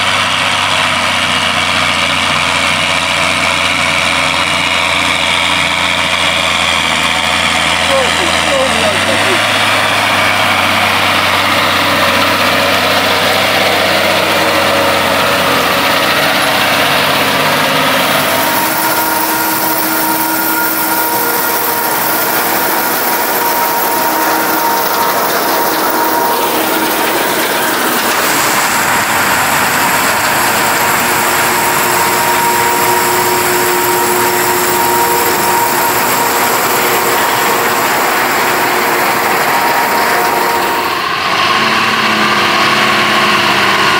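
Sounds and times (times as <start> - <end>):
low engine hum: 0.0 - 43.9
harvesting machinery hiss: 4.6 - 41.2.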